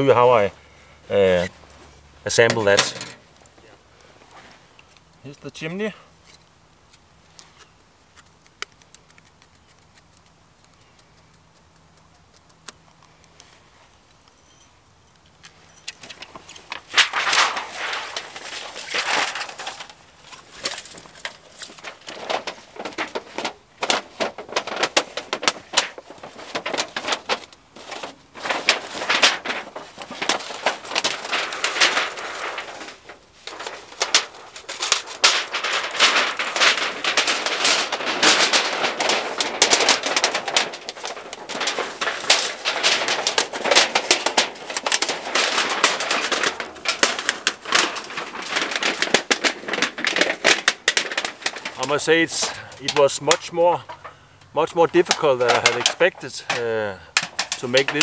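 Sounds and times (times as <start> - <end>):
sheet metal crinkling: 1.1 - 5.0, 14.2 - 58.0.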